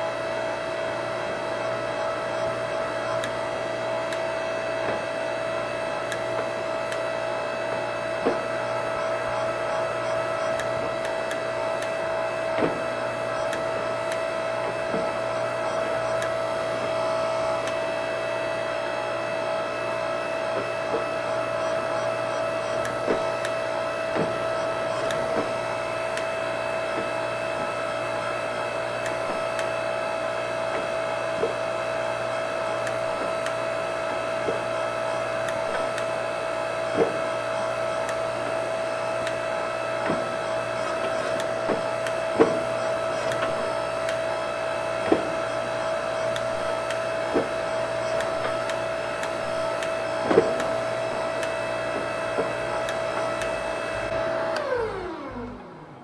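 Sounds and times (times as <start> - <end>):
electric motor hum and whine: 0.0 - 56.0.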